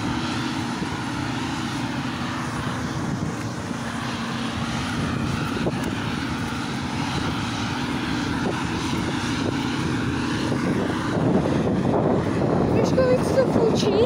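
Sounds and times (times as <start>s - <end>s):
constant hum: 0.0s - 14.0s
diesel engine drone: 0.0s - 14.0s.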